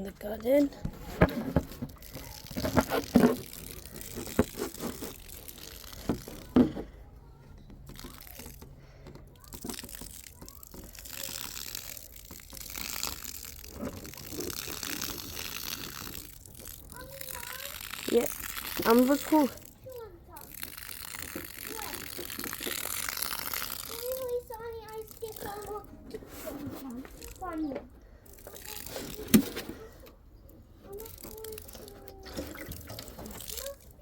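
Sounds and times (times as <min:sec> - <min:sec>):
water pouring and splashing: 0:00.0 - 0:06.8, 0:07.8 - 0:34.0.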